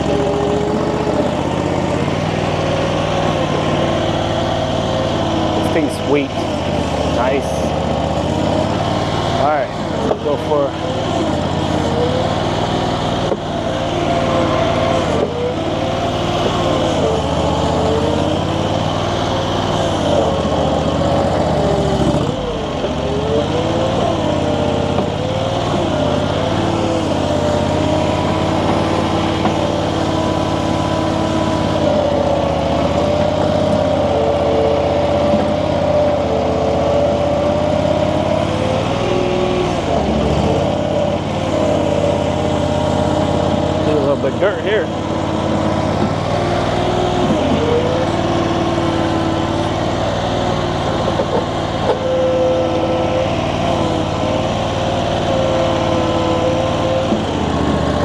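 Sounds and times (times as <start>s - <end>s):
loader digging dirt: 0.0s - 58.0s
skid steer engine running: 0.0s - 58.0s.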